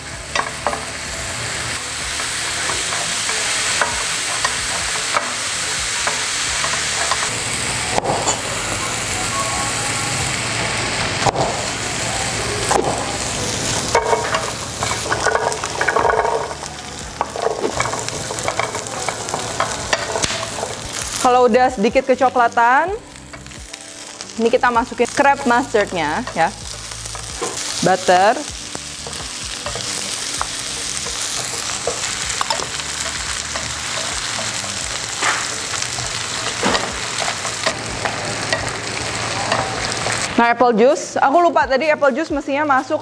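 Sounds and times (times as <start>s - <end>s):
paste sizzling in oil: 0.0s - 9.2s, 9.8s - 40.4s.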